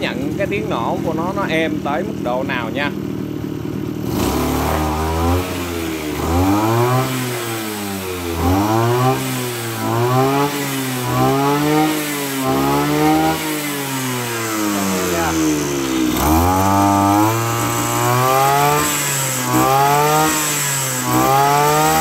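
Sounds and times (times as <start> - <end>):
brush cutter engine revving: 0.0 - 22.0.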